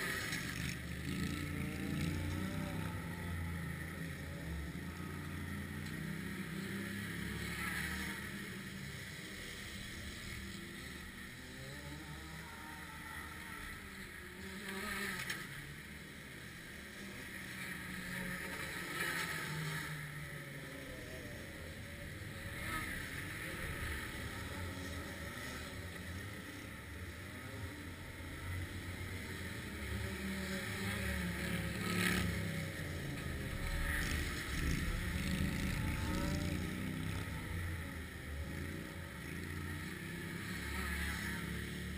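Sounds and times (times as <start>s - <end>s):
racing kart engines passing: 0.0s - 41.9s.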